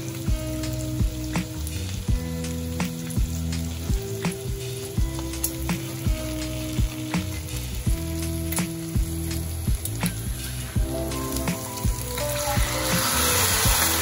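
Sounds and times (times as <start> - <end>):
background music with steady beat: 0.0 - 14.0
food sizzling in a pot: 0.0 - 14.0.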